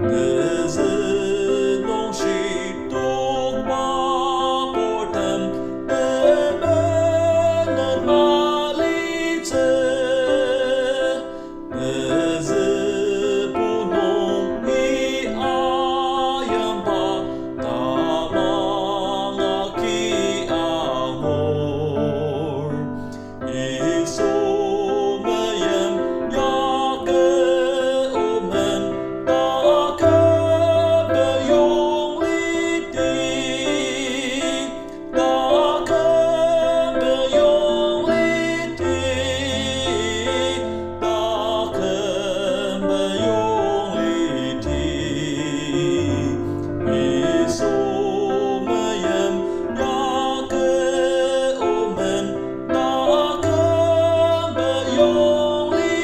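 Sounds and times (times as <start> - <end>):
keyboard accompaniment: 0.0 - 56.0
person singing with vibrato: 0.0 - 56.0.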